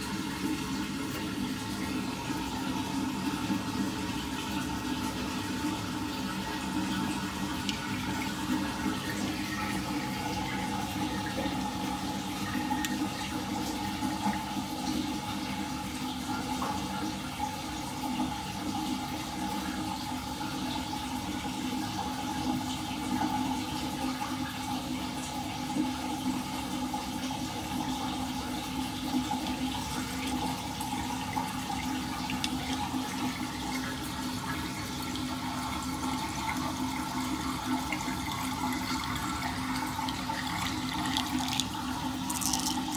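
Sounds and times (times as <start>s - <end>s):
water draining down a drain: 0.0s - 42.9s.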